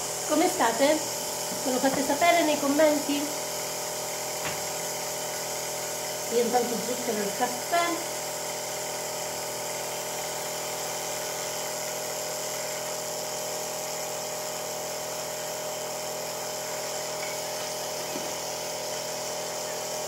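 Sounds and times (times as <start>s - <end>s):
air hiss: 0.0s - 20.0s
nebulizer motor hum: 0.0s - 20.0s.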